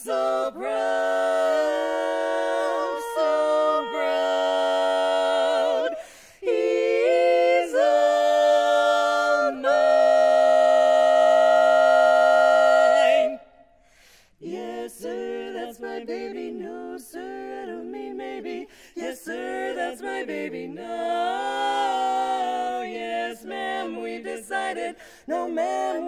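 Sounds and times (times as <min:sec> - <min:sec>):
women singing a cappella harmony: 0:00.0 - 0:26.0.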